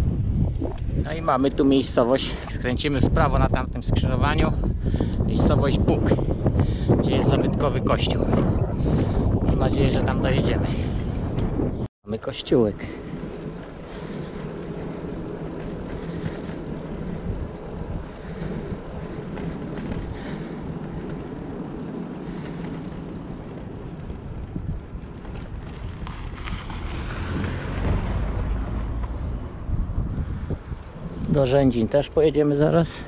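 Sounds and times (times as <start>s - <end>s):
wind on microphone: 0.0s - 11.9s, 12.8s - 32.0s
road rumble: 4.6s - 33.0s.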